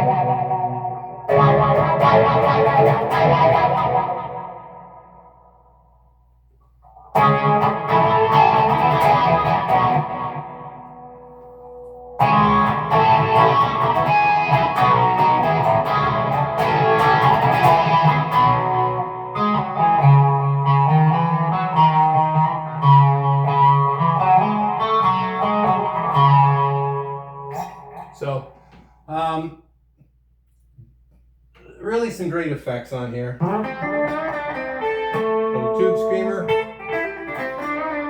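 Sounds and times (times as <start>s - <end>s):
overdriven electric guitar: 0.0s - 5.5s, 6.8s - 28.2s, 33.4s - 38.0s.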